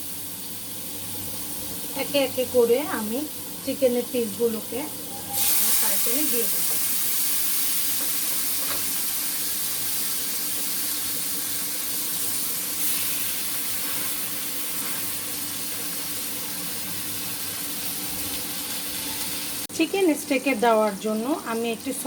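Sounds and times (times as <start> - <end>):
chicken sizzling in a frying pan: 0.0 - 22.0.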